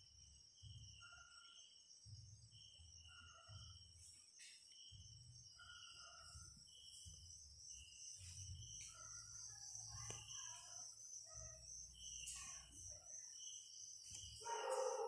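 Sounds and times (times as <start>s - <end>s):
insects trilling: 0.0s - 15.0s
short insect chirps: 2.6s - 15.0s.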